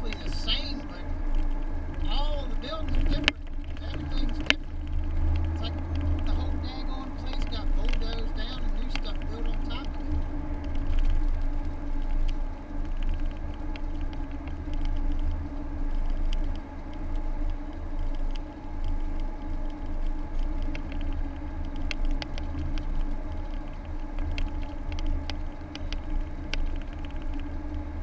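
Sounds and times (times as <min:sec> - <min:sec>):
engine and tyre rumble: 0:00.0 - 0:28.0.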